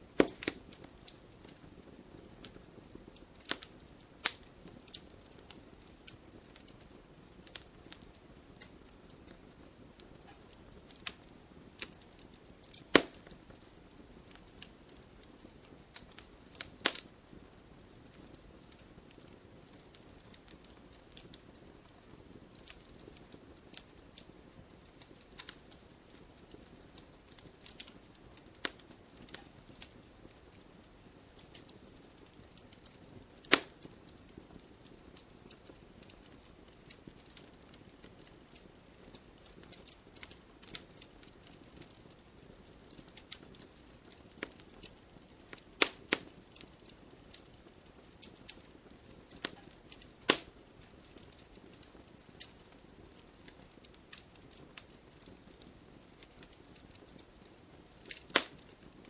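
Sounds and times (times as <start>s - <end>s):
campfire crackling: 0.0s - 59.0s
fire popping: 0.0s - 59.0s.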